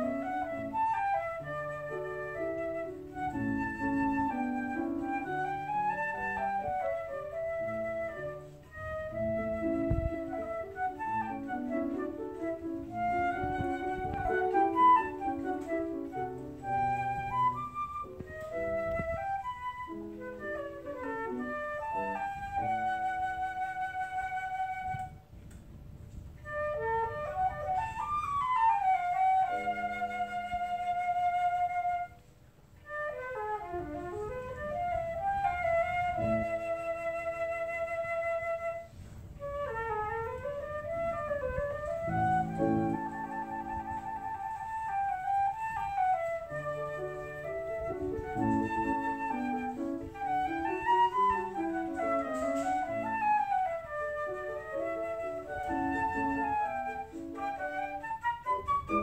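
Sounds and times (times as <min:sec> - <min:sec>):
piano chords: 0:00.0 - 0:24.8, 0:26.4 - 0:59.0
flute playing: 0:00.0 - 0:59.0.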